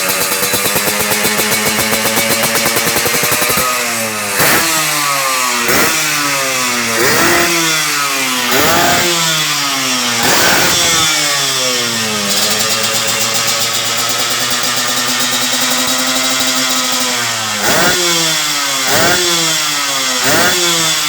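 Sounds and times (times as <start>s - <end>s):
motorcycle engine idling: 0.0s - 21.0s
two-stroke motorcycle engine revving: 0.0s - 21.0s.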